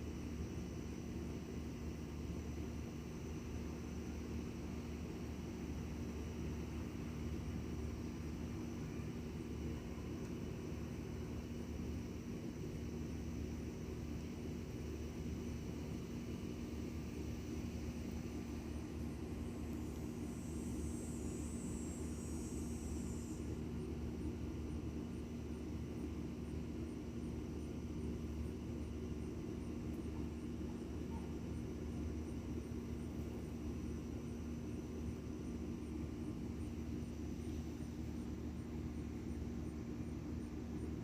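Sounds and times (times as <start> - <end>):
low rumble with hum: 0.0 - 41.0.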